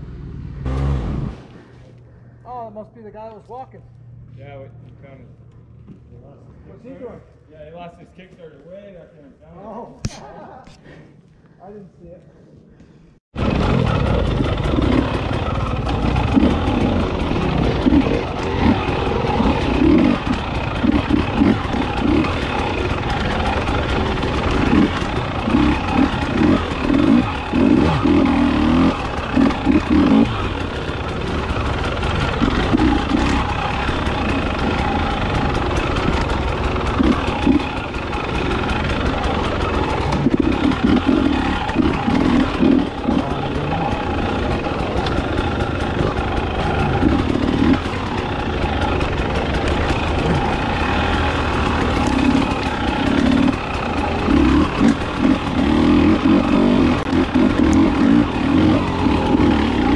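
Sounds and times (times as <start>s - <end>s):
motorcycle engine revving: 0.0s - 1.8s, 13.3s - 59.9s.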